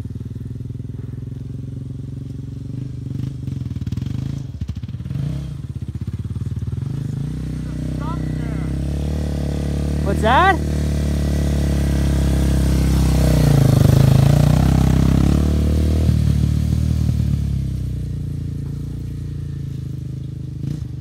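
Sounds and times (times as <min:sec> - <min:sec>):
quad engine passing by: 0:00.0 - 0:21.0.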